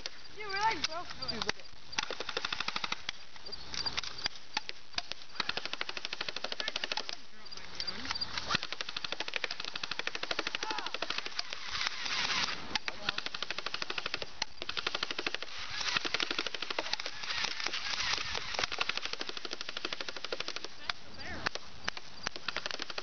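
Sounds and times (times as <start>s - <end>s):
airsoft guns firing full auto: 0.0s - 7.3s, 7.9s - 23.0s.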